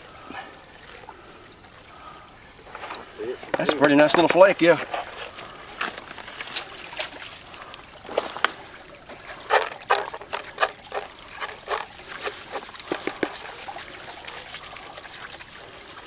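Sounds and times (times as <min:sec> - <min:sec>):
steady wash of water: 0:00.0 - 0:16.0
water splashing in gold pan: 0:00.0 - 0:16.0.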